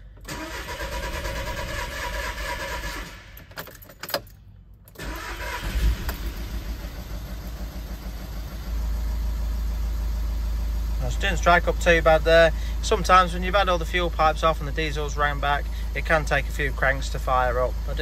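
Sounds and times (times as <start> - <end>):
diesel engine cranking and idling: 0.0 - 18.0.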